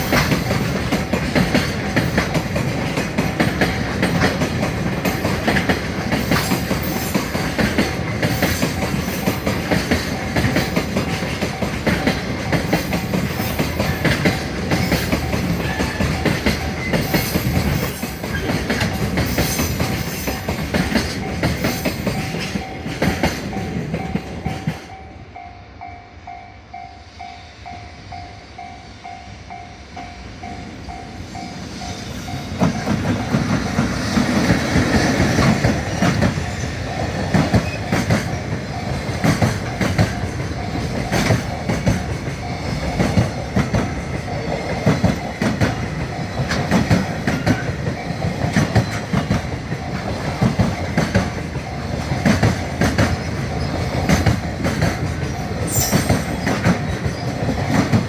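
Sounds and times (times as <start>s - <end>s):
train wheels clattering over rails: 0.0s - 25.0s, 30.0s - 58.0s
level-crossing alarm clanging: 0.0s - 58.0s.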